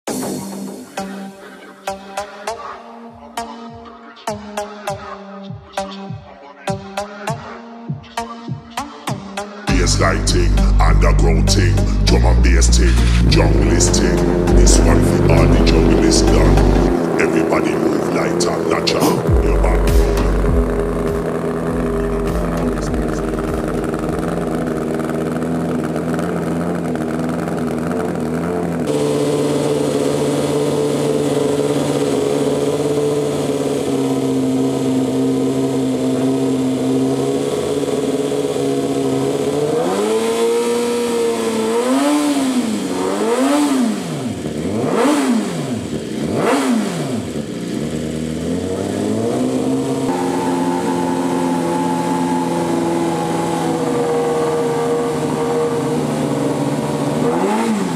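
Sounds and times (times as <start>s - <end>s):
motorcycle engine idling and revving: 9.7s - 57.9s.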